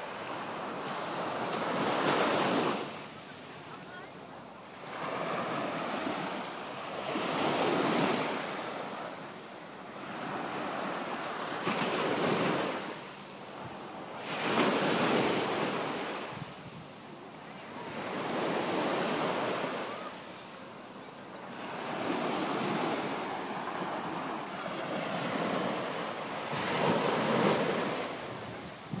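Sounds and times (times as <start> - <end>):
small waves breaking on beach: 0.0 - 29.0.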